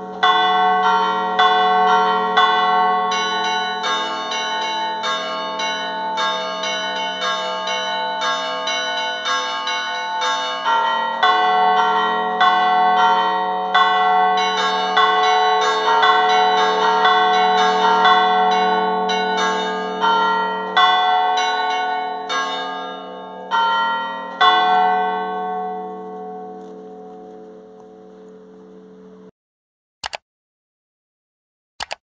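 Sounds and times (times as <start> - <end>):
bells humming: 0.0 - 29.3
church bells struck rapidly: 0.0 - 29.3.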